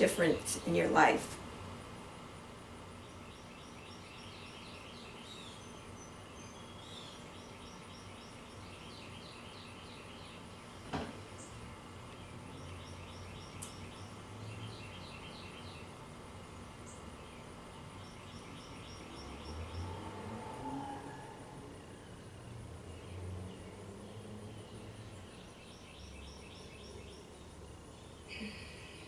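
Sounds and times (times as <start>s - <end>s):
faint background hiss: 0.0s - 29.0s
birds chirping: 2.6s - 29.0s.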